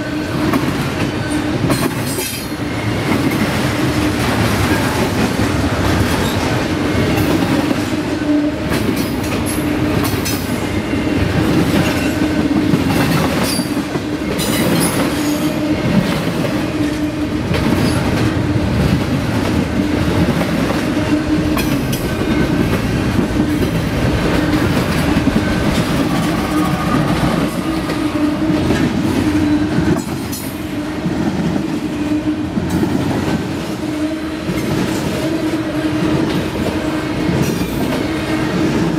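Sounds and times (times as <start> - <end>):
steel wheels rumbling on rail: 0.0 - 38.9.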